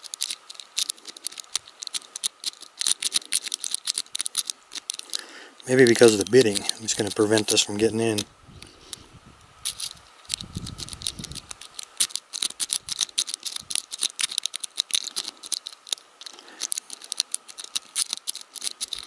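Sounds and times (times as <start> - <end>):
lock pick raking padlock: 0.0 - 8.3, 9.6 - 19.0.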